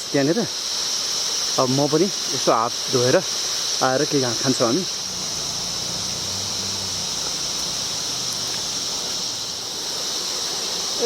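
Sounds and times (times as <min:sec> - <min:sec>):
insects droning: 0:00.0 - 0:11.0
outdoor ambient hiss: 0:00.0 - 0:11.0.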